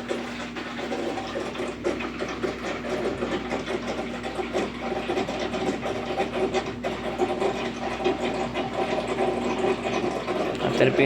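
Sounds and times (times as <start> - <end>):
washing machine drain pump humming: 0.0 - 11.0.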